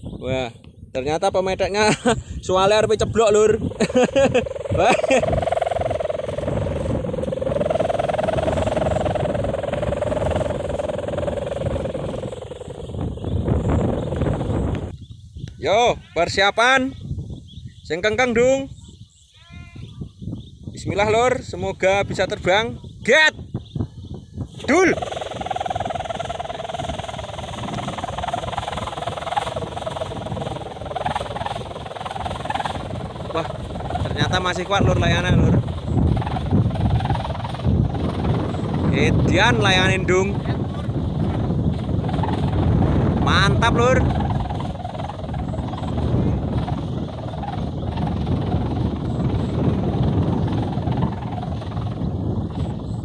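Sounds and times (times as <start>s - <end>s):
kite hummer humming: 0.0s - 53.0s
wind rumble on microphone: 0.0s - 53.0s.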